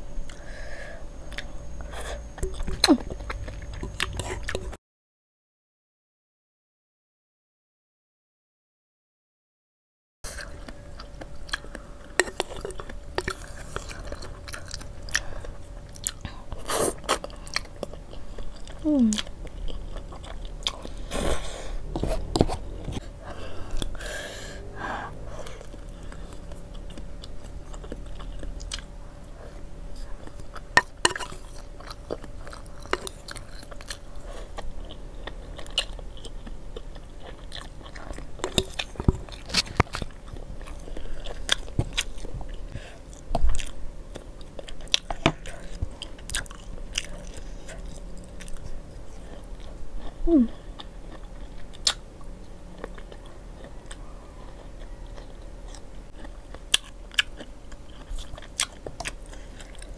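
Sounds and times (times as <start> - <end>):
chewing: 1.2 - 4.8, 10.3 - 24.1, 25.0 - 59.9.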